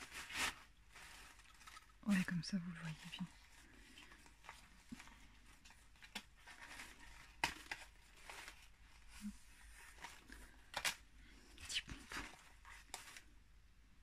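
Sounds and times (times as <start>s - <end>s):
paper rustling: 0.0s - 13.4s.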